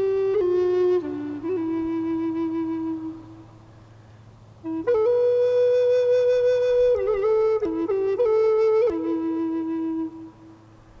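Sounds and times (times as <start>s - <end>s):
solo woodwind melody: 0.0s - 4.0s, 4.6s - 11.0s.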